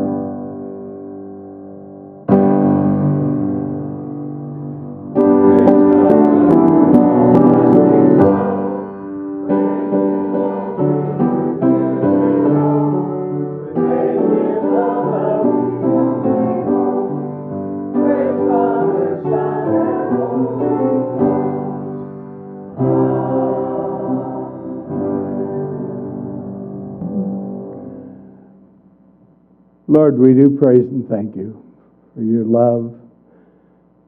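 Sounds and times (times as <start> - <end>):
slow piano chords: 0.0 - 33.2.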